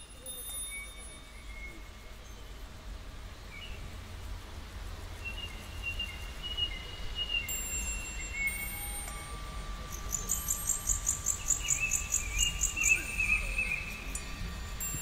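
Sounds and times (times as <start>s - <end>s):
low steady rumble: 0.0s - 15.0s
small birds singing: 0.0s - 15.0s.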